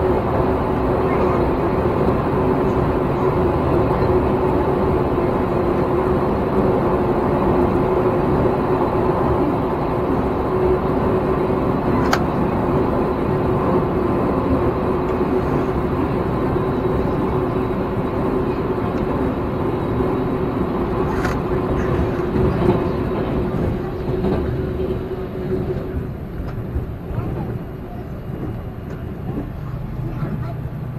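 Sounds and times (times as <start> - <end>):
train running noise: 0.0 - 30.9.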